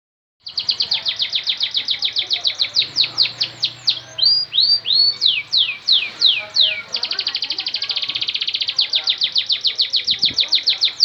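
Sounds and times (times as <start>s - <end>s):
canary singing: 0.4s - 11.0s.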